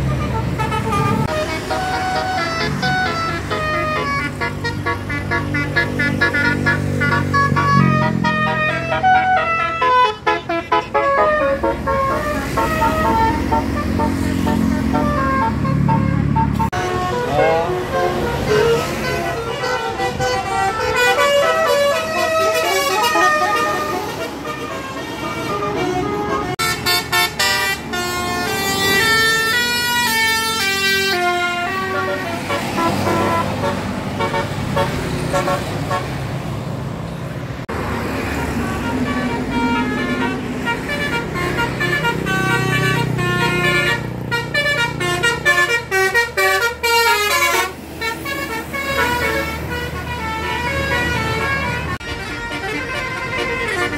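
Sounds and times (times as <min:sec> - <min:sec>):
bus horns playing melodic runs: 0:00.0 - 0:36.6, 0:37.6 - 0:53.9
bus engine running: 0:00.0 - 0:53.9.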